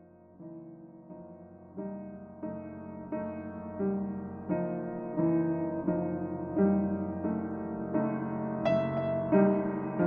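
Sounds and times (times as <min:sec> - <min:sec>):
piano chords: 0:00.0 - 0:10.0.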